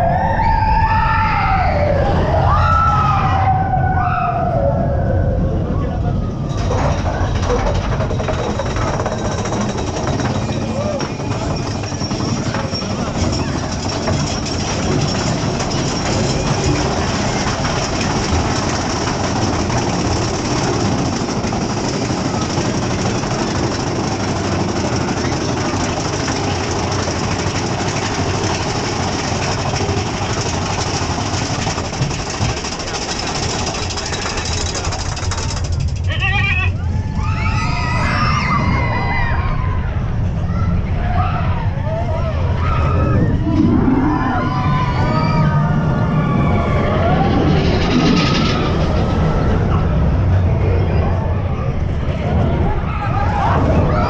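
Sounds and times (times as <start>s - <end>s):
roller coaster train rushing on track: 0.0s - 54.0s.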